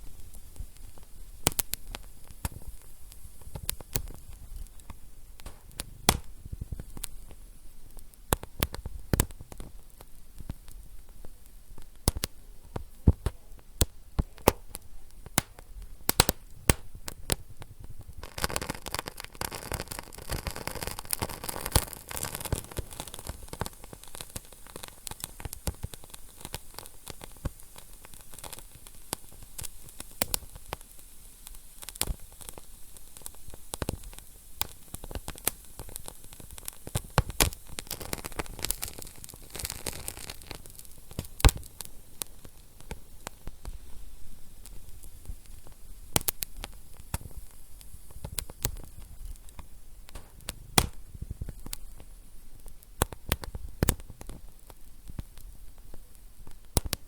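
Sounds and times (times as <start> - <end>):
fire hissing and sizzling: 0.0 - 57.0
wood fire crackling: 0.0 - 57.0.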